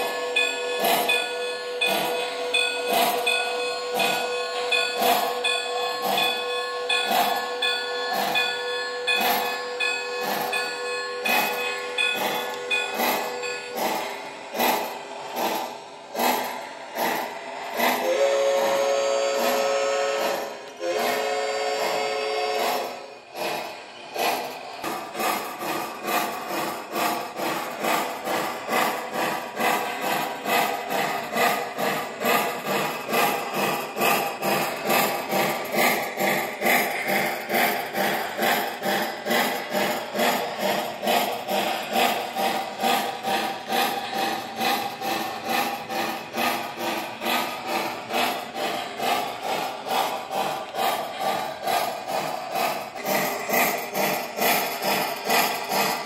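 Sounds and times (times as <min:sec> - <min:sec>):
model steam locomotive chuffing: 0:00.0 - 0:56.0.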